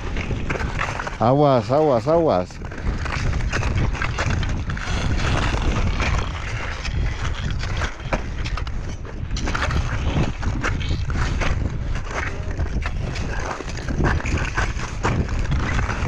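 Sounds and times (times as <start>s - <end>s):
wind rumble on microphone: 0.0s - 16.0s
crampon footsteps crunching on ice: 2.6s - 16.0s.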